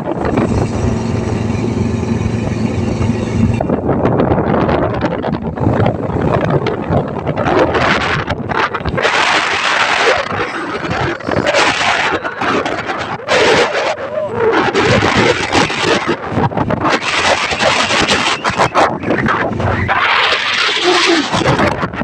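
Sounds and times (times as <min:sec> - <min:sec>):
gusty wind buffeting microphone: 0:00.0 - 0:22.0.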